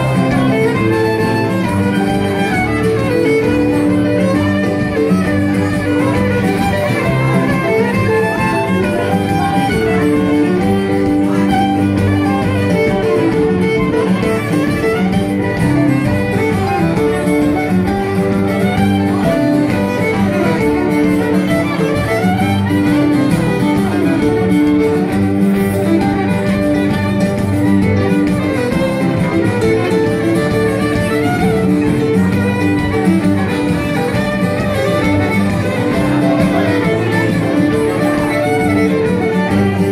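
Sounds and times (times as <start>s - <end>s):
fiddle playing a folk tune: 0.0s - 39.9s
strummed acoustic guitar: 0.0s - 39.9s.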